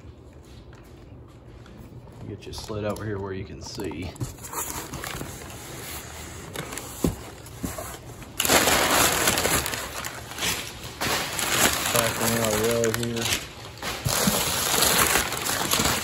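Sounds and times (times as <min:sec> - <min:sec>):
packing paper rustling and crinkling: 0:02.5 - 0:16.0.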